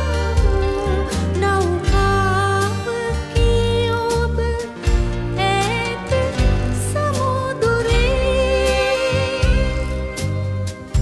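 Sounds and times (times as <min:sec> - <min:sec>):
woman singing: 0:00.0 - 0:10.7
bass: 0:00.0 - 0:11.0
guitar: 0:00.0 - 0:11.0.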